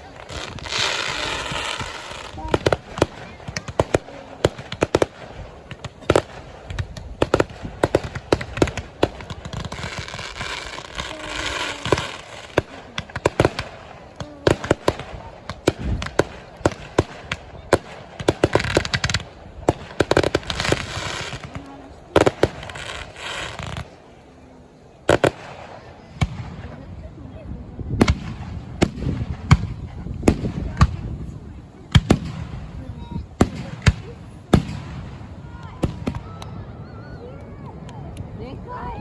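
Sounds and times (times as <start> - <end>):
fireworks bangs: 0.0 - 39.0
fireworks crackling: 0.0 - 39.0.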